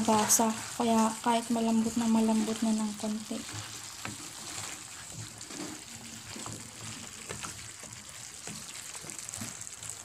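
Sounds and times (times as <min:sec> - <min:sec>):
spatula scraping a pan: 0:00.0 - 0:01.4, 0:02.0 - 0:09.9
vegetables sizzling in a pan: 0:00.0 - 0:10.0.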